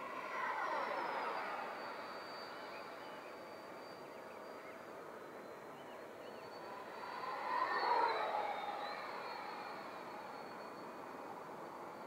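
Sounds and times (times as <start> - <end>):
rc jet fan whining past: 0.0 - 12.0.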